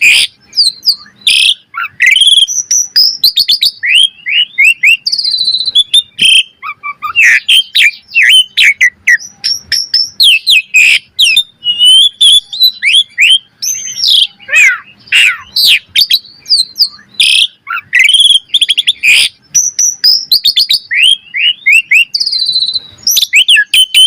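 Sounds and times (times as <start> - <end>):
starling singing: 0.0 - 24.0.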